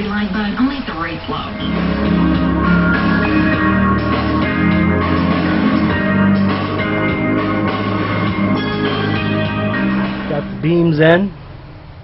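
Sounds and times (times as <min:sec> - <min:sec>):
rock music: 0:01.4 - 0:11.1.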